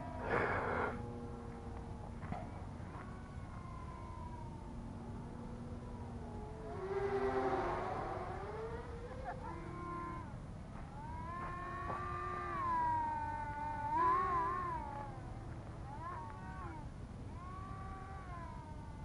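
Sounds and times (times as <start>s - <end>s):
electric motors of model aircraft whining: 0.0s - 19.0s.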